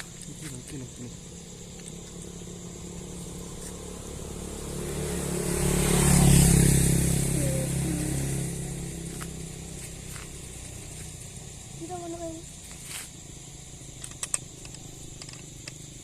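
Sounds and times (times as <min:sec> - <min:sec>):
motor vehicle passing by: 0:00.0 - 0:13.9.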